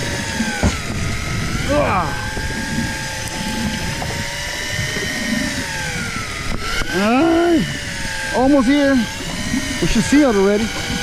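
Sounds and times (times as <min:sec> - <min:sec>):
electric reel motor whining: 0:00.0 - 0:11.0.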